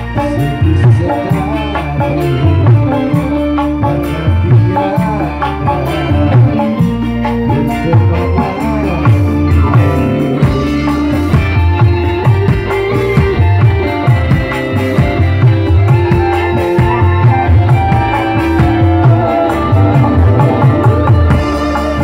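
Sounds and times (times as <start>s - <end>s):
bass: 0.0s - 22.0s
guitar melody: 0.0s - 22.0s
steady drum beat: 0.0s - 22.0s.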